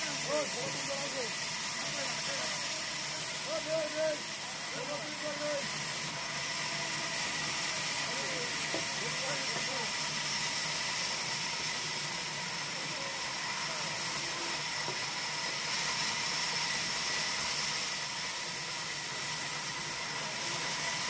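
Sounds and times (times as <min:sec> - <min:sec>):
sawmill machinery hissing: 0:00.0 - 0:21.0.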